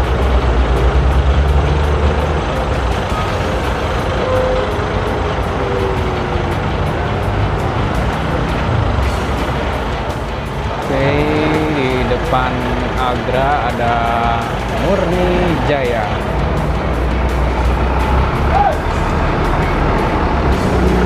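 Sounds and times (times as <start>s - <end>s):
diesel bus engine rumbling: 0.0s - 21.0s
street traffic noise: 0.0s - 21.0s.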